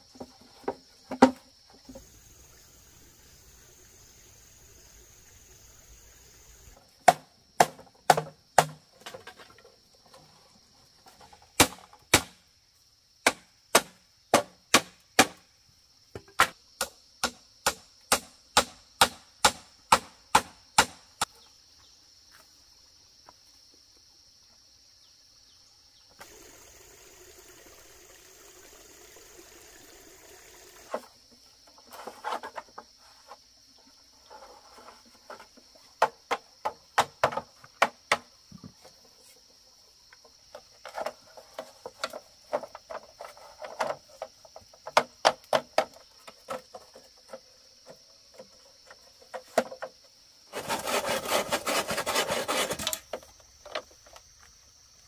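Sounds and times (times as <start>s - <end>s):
insect chirring: 0.0s - 55.0s.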